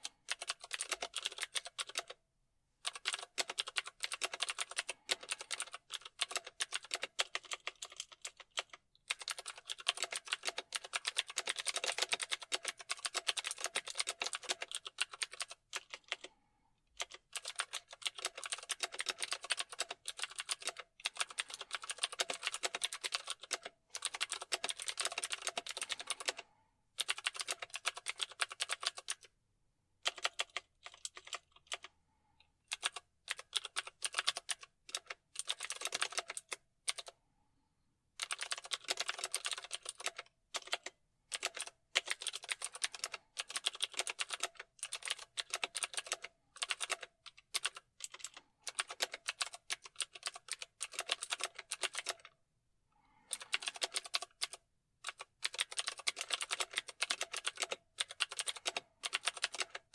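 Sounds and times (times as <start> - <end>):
fast typing on keyboard: 0.0 - 2.2, 2.8 - 16.4, 17.0 - 29.3, 30.0 - 31.9, 32.7 - 37.1, 38.2 - 52.3, 53.1 - 59.9.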